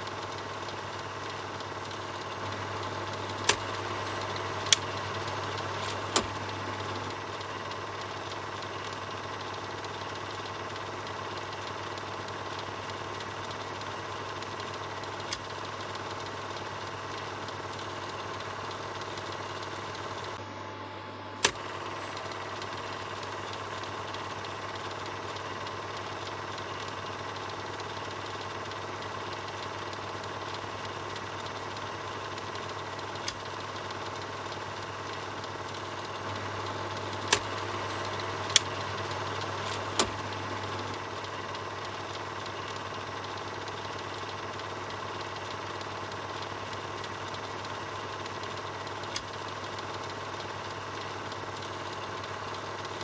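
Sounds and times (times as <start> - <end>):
film projector whirring: 0.0 - 53.0
sharp clicks: 0.6 - 20.4, 21.4 - 27.1, 29.0 - 52.7.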